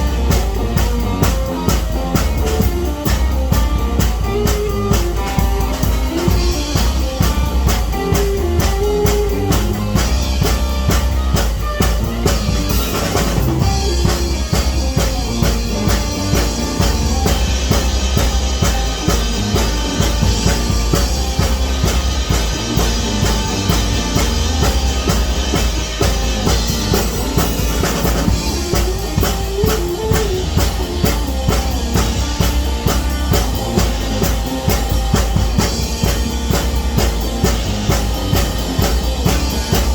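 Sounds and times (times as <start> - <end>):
drum kit beat: 0.0 - 39.9
pitched instruments: 0.0 - 39.9.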